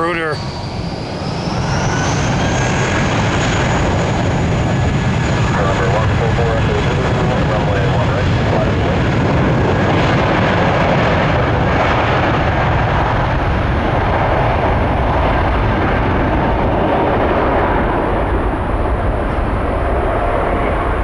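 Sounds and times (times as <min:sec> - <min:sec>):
jet engines at takeoff thrust: 0:00.0 - 0:21.0.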